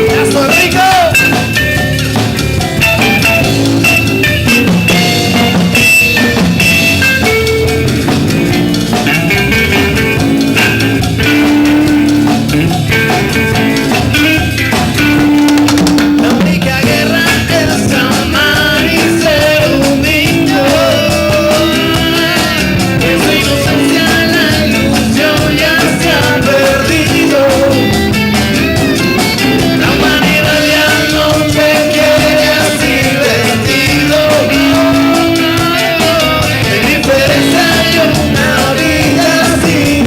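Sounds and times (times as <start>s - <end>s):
drum kit beat: 0.0s - 40.0s
live band playing: 0.0s - 40.0s.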